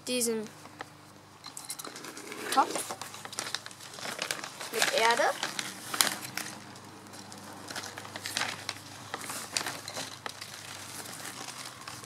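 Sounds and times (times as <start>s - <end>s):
plastic sack crinkling: 2.0s - 12.0s.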